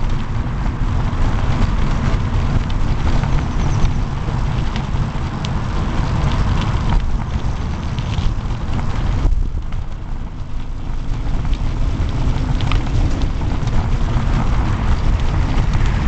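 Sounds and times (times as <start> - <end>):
small clicks and rattles: 0.0 - 16.0
tyre noise on pavement: 0.0 - 16.0
wind buffeting microphone: 0.0 - 16.0.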